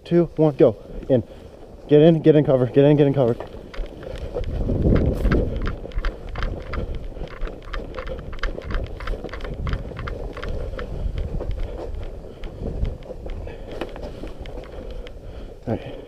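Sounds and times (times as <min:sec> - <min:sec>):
footsteps crunching in snow: 0:00.0 - 0:16.0
wind rumble on microphone: 0:00.0 - 0:16.0.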